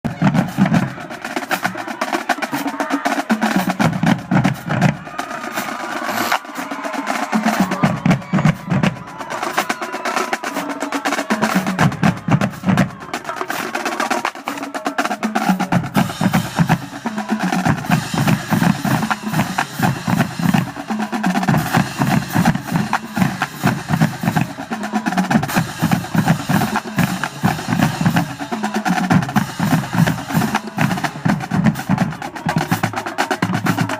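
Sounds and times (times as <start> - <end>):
rapid snare drum rolls: 0.0 - 33.9.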